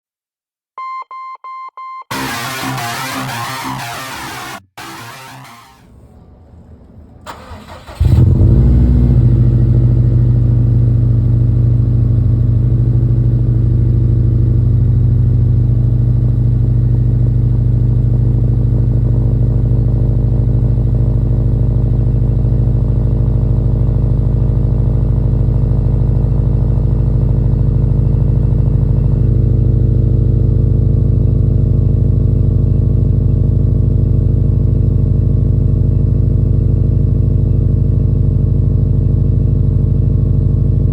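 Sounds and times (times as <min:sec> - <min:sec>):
car engine starting and idling: 0:02.1 - 0:40.9.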